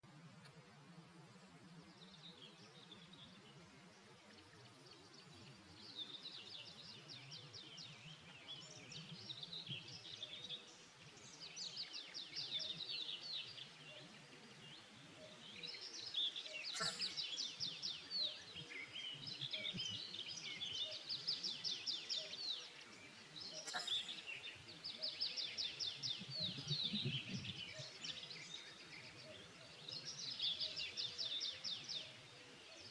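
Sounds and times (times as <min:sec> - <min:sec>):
songbirds chirping and singing: 0:00.7 - 0:32.9.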